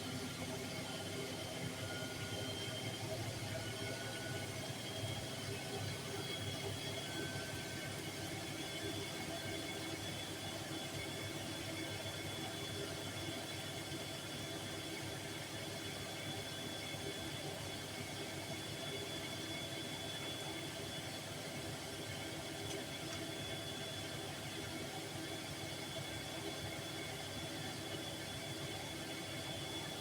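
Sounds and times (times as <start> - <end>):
washing machine spinning: 0.0 - 12.2, 16.4 - 30.0.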